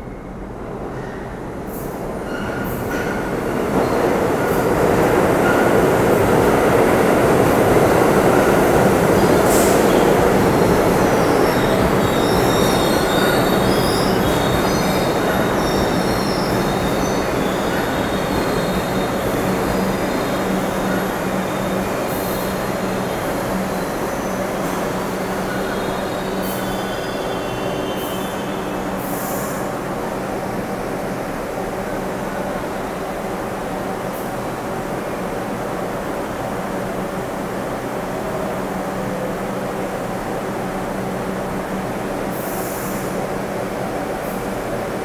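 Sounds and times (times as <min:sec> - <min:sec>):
train wheels rumbling on rail: 0:00.2 - 0:45.0.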